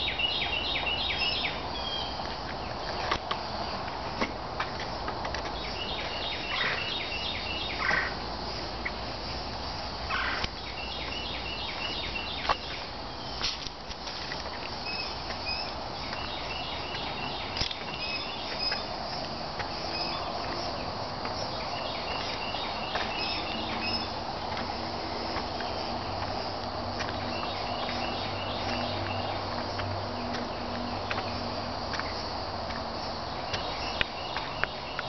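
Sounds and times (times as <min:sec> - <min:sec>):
songbird chirping: 0:00.0 - 0:35.0
footsteps on wooden boardwalk: 0:02.1 - 0:06.9, 0:10.4 - 0:35.0.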